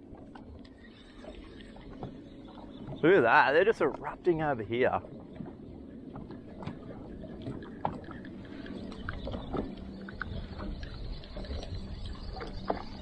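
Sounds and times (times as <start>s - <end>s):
water lapping around boat: 0.0s - 13.0s.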